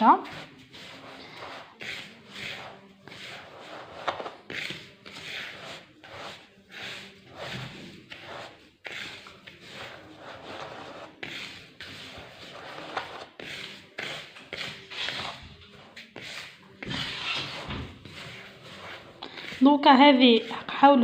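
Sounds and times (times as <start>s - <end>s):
hands rubbing semolina and sugar: 0.0s - 20.8s.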